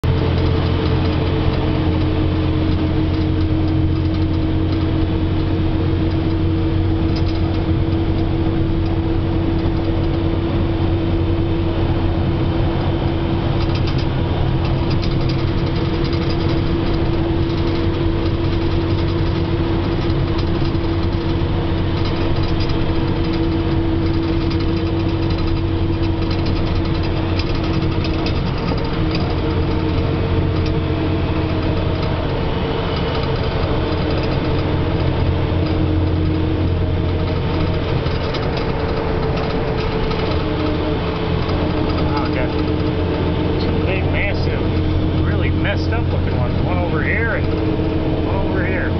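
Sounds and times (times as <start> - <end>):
vehicle engine and road drone: 0.0 - 48.9.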